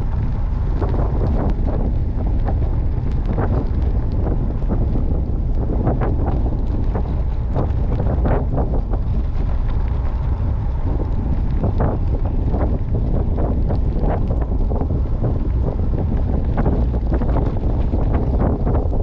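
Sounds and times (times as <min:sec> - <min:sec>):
short crackles: 0:00.0 - 0:19.0
wind buffeting microphone: 0:00.0 - 0:19.0.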